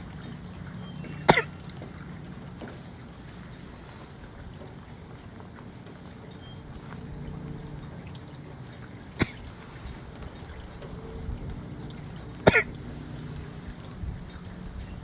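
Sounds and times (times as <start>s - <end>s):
gusty wind and rain: 0.0s - 15.0s.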